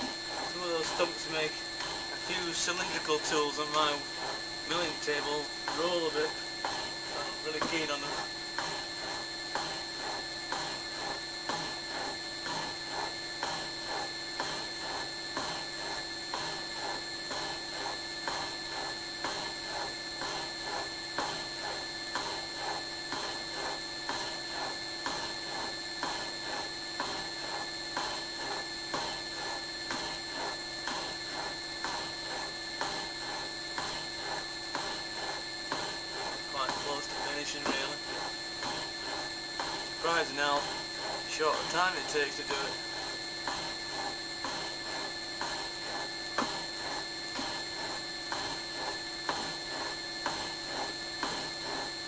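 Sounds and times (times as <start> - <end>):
milling machine motor whine: 0.0 - 52.0.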